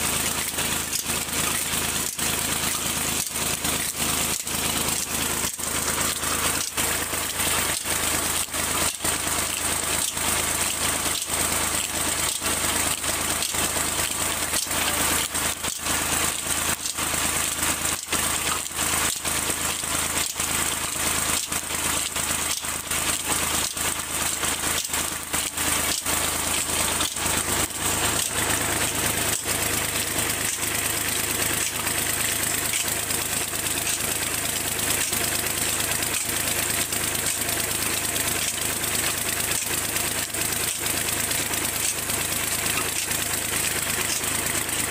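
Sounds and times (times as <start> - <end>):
tractor diesel engine clattering: 0.0 - 44.9.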